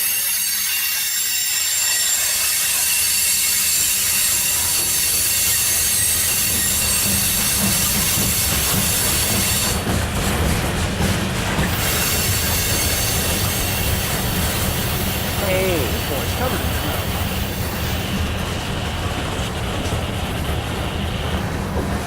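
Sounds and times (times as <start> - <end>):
train wheels rumbling and clattering: 0.0 - 22.0
train wheels squealing: 0.0 - 22.0.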